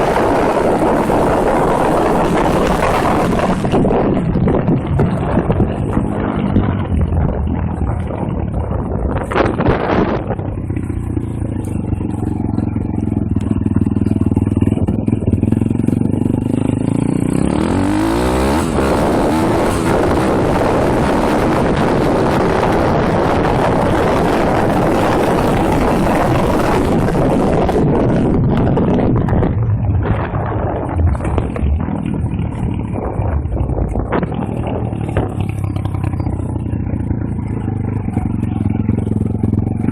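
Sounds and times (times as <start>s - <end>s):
motorbike engine revving: 0.0s - 39.9s
wind rushing over microphone: 0.0s - 39.9s.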